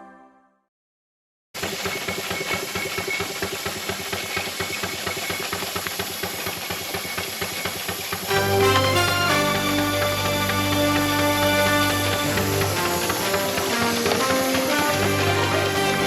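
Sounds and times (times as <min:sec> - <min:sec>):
steam engine running: 0:01.8 - 0:16.0.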